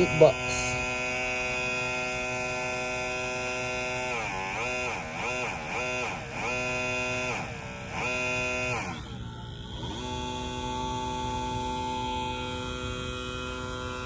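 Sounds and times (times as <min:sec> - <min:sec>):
electric pump motor whining: 0:00.0 - 0:14.0.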